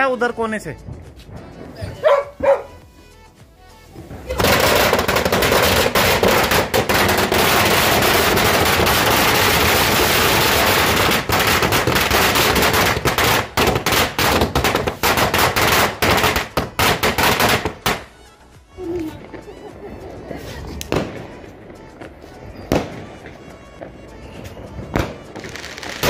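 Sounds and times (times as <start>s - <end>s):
firecrackers crackling: 0.2s - 18.2s, 18.9s - 26.0s.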